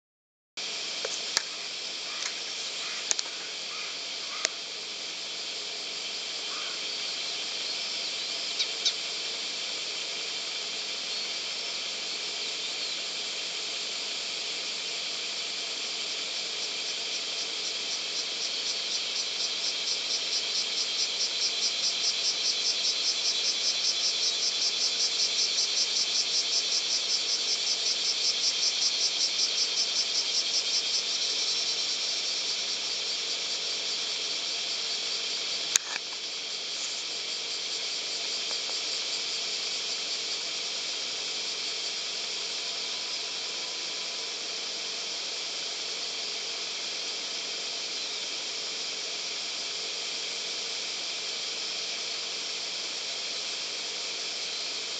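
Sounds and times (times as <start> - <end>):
cicada pulsing trill: 0.6 - 54.9
high insect hiss: 0.6 - 54.9.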